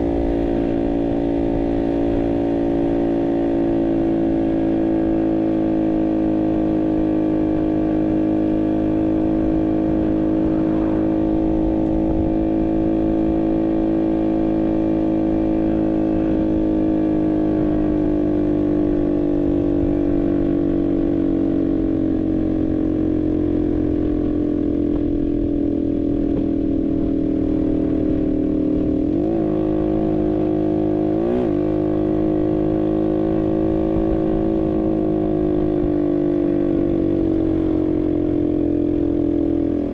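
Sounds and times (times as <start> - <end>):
moped engine running: 0.0 - 39.9.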